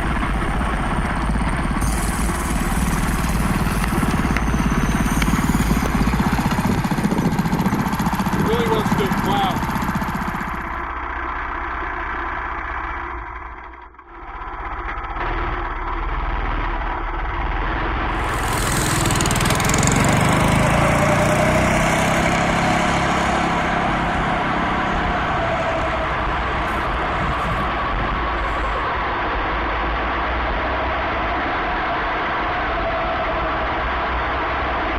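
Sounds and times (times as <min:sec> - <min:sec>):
small gasoline engine running: 0:00.0 - 0:30.0.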